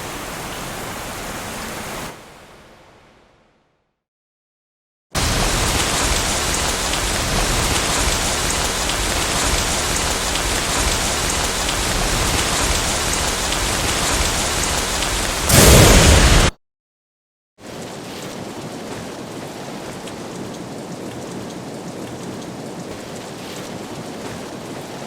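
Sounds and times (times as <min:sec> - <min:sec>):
heavy rain: 0:00.0 - 0:02.6, 0:05.2 - 0:16.6, 0:17.6 - 0:25.0.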